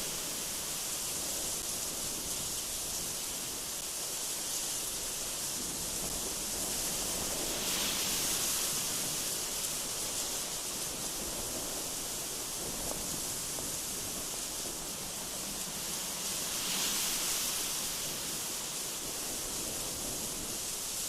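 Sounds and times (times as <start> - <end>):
gusty wind through trees: 0.0 - 21.0.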